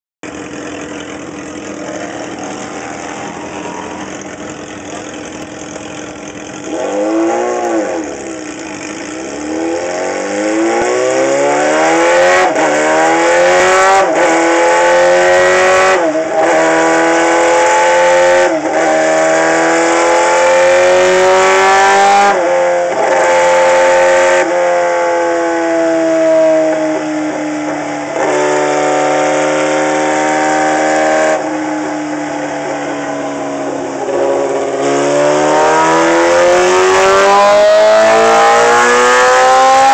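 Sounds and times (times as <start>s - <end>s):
motorcycle engine revving: 0.2s - 39.9s.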